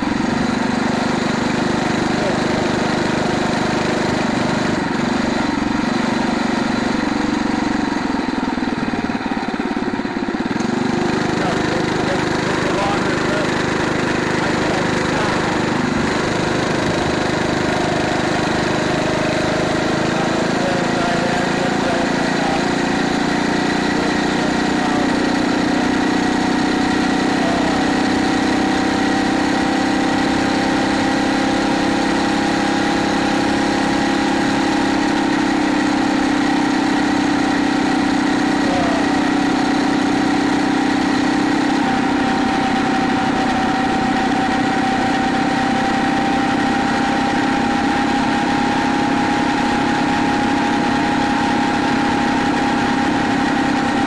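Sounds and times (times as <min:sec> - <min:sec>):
motorized bicycle engine buzzing: 0:00.0 - 0:54.0.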